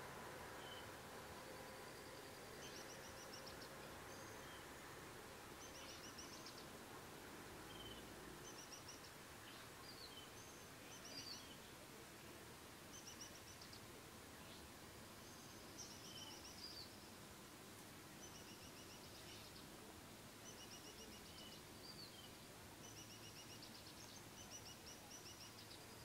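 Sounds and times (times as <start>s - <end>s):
background hiss: 0.0s - 26.0s
faint birdsong chirps: 0.0s - 26.0s.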